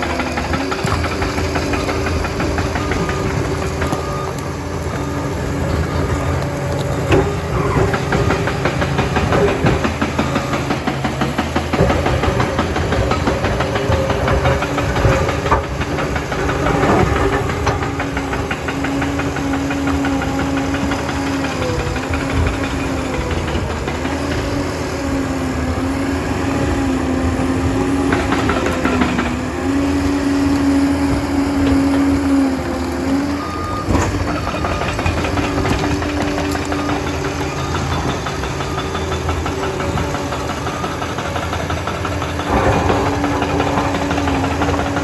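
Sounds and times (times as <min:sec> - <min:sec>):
dozer diesel engine running: 0:00.0 - 0:45.0
knocks and clanks: 0:00.0 - 0:45.0.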